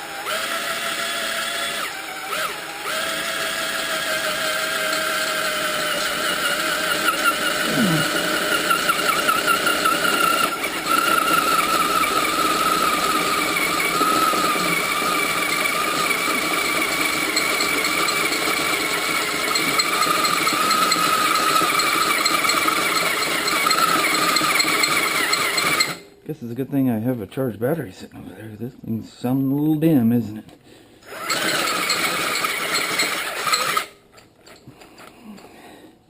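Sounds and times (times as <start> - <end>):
cordless drill motor whine: 0.0 - 26.0, 31.0 - 34.0.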